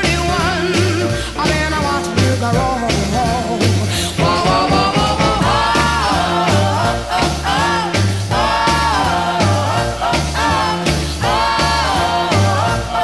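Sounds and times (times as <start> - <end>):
bouncing bass line: 0.0 - 13.0
high lead vocal: 0.0 - 13.0
rock and roll song: 0.0 - 13.0.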